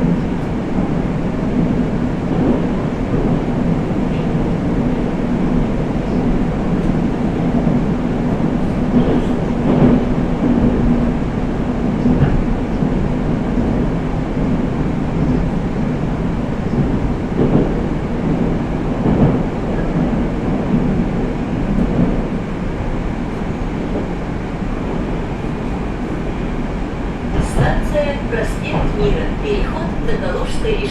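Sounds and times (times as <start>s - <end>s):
track knocks: 0.0s - 30.9s
train drive hum: 0.0s - 30.9s
train wheels rumbling on rail: 0.0s - 30.9s.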